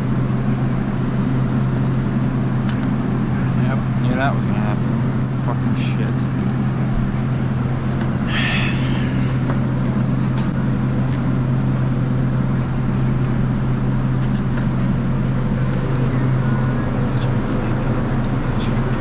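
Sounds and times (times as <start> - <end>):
refrigeration machinery hum: 0.0 - 19.0.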